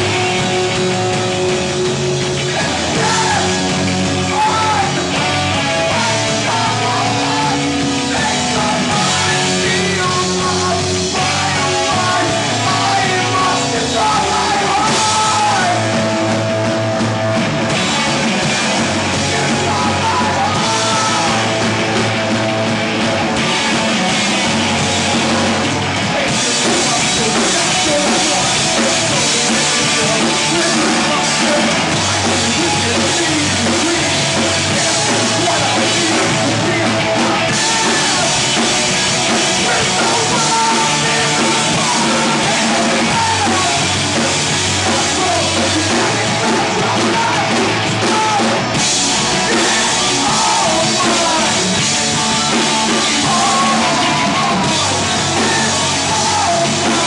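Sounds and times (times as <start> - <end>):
drum kit: 0.0 - 57.0
electric guitar: 0.0 - 57.0
rock band playing live: 0.0 - 57.0.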